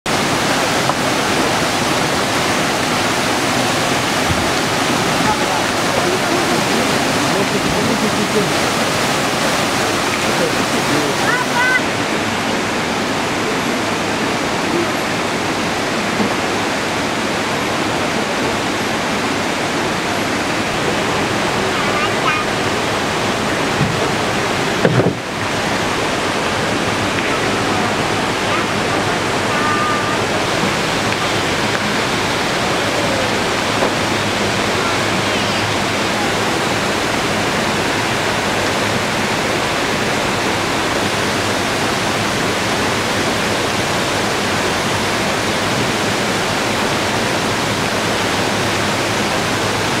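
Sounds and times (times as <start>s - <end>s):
water rushing over waterfalls: 0.0s - 50.0s.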